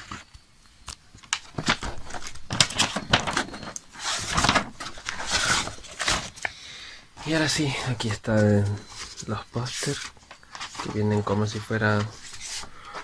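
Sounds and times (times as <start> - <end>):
paper rustling and crinkling: 1.2 - 6.6, 7.2 - 13.0.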